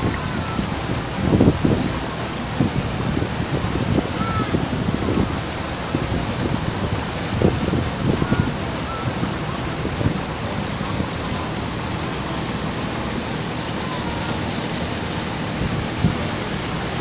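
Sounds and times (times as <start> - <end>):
boat engine running: 0.0 - 17.0
water and wind hissing: 0.0 - 17.0.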